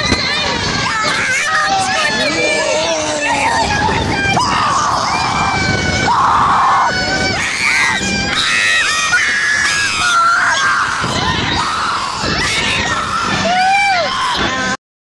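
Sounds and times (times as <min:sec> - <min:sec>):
riders screaming: 0:00.7 - 0:14.8.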